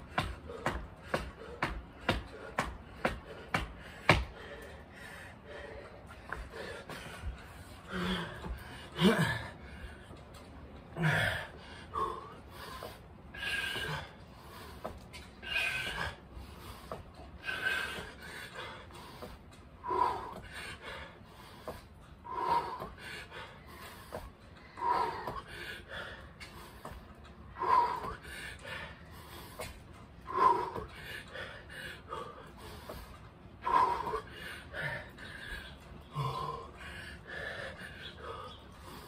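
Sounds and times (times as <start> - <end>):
man panting: 0.0 - 39.0.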